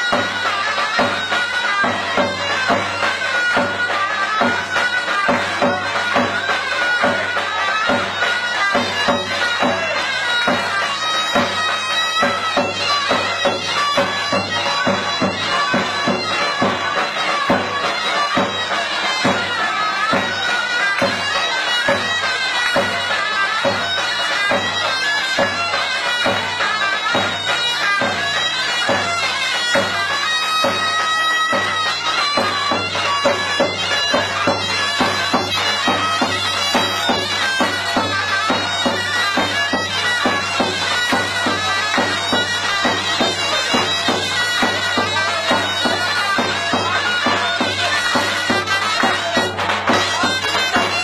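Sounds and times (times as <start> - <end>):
folk dance tune on droning reed: 0.0 - 51.0
steady beat: 0.0 - 51.0.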